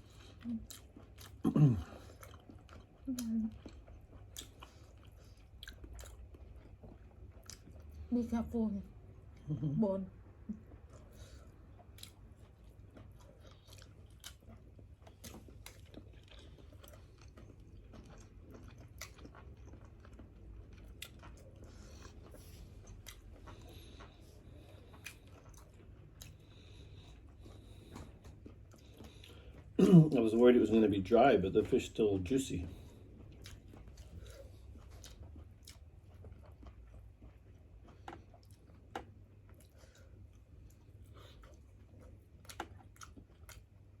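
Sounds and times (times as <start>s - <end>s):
person chewing food: 0.0s - 8.1s, 8.9s - 44.0s
low steady hum: 0.0s - 44.0s.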